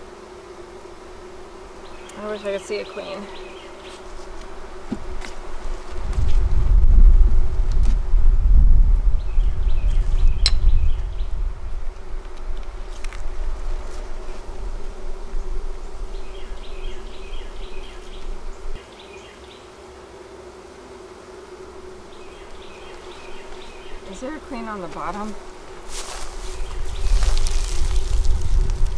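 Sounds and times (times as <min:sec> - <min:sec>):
honeybees humming: 0:00.0 - 0:28.9.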